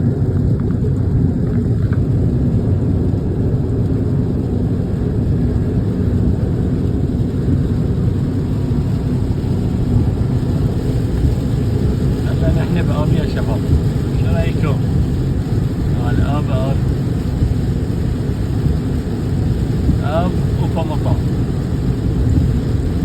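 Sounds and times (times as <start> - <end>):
rainstorm rumble: 0.0 - 23.0.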